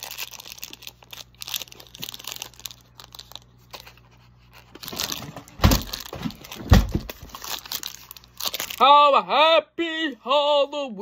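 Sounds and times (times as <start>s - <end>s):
plastic wrapper crinkling and tearing: 0.0s - 9.0s.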